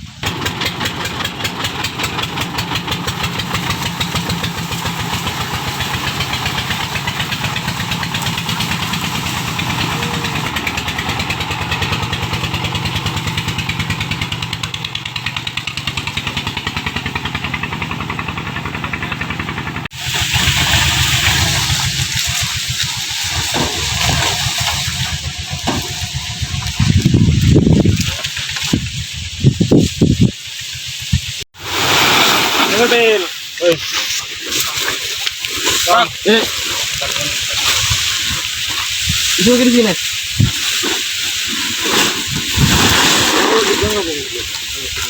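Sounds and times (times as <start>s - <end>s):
corn sheller engine pulsing: 0.0s - 45.0s.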